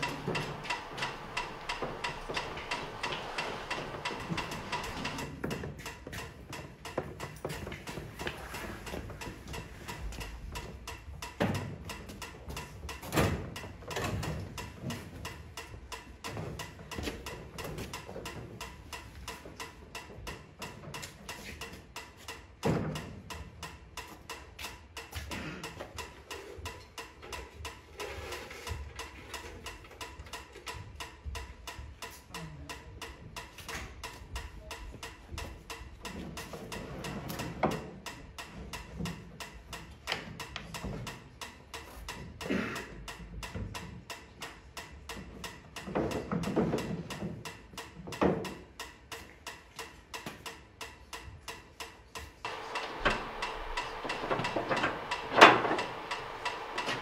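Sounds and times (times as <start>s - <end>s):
rapid mechanical ticking: 0.0s - 57.0s.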